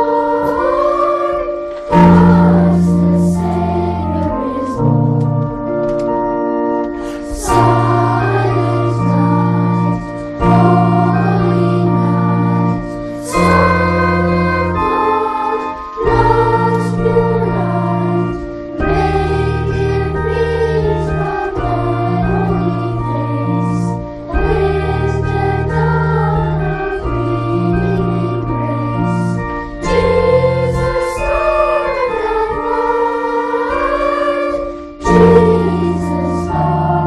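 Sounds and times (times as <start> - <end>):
children's choir singing: 0.0 - 37.0
organ chords: 0.0 - 37.0.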